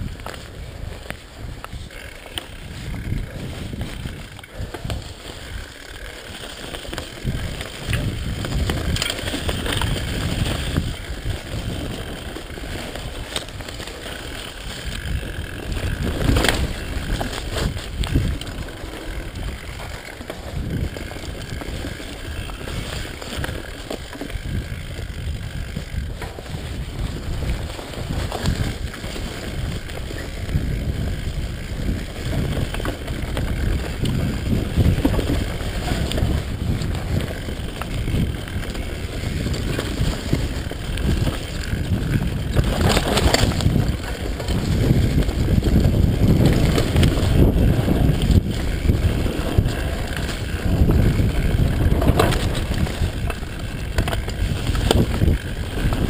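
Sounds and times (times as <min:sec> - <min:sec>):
bike tyres rumbling and rattling: 0:00.0 - 0:56.0
wind on microphone: 0:00.0 - 0:56.0.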